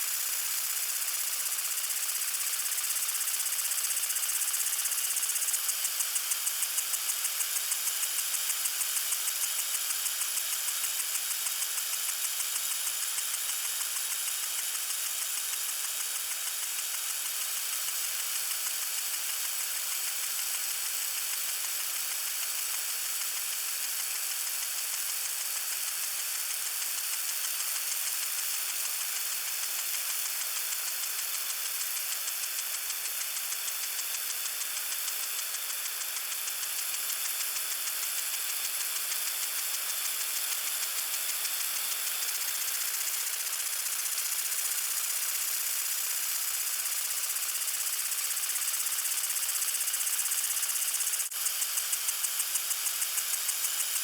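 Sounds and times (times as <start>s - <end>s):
lawn sprinkler spraying water: 0.0s - 54.0s
sprinkler fast ticking: 0.1s - 54.0s.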